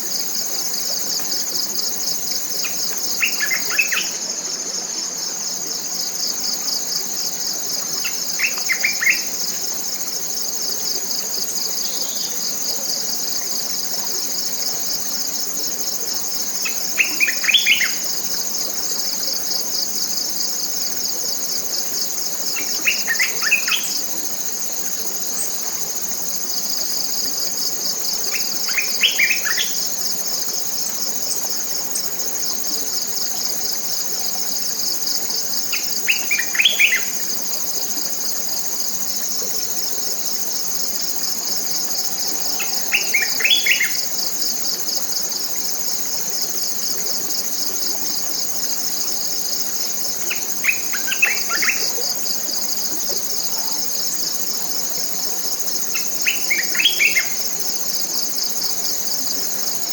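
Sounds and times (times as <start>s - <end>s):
insects chorus trilling: 0.0s - 59.9s.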